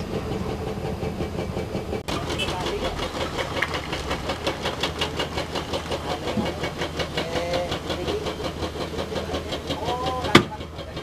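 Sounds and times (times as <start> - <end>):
diesel engine running: 0.0 - 11.0
hydraulic breaker hammering rock: 2.0 - 11.0.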